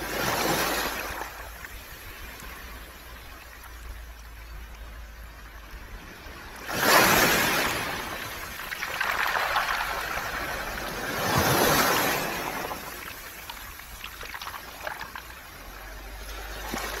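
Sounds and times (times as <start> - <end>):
waves washing up pebble beach: 0.0 - 3.2, 6.0 - 17.0
water draining through stones: 0.0 - 17.0.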